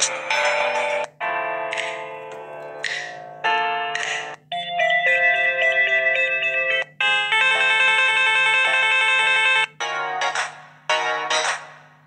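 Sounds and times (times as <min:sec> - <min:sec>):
electronic ringtone melodies: 0:00.0 - 0:11.5.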